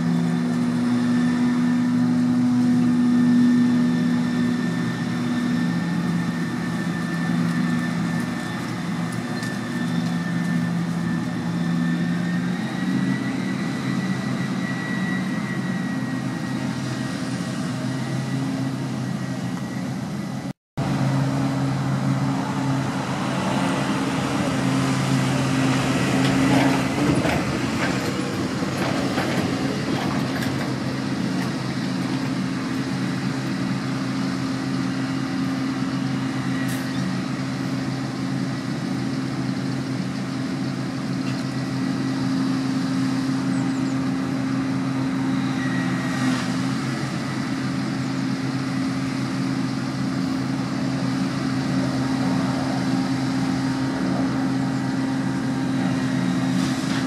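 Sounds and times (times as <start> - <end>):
forage harvester engine under load: 0.0 - 57.0
tractor running: 0.0 - 57.0.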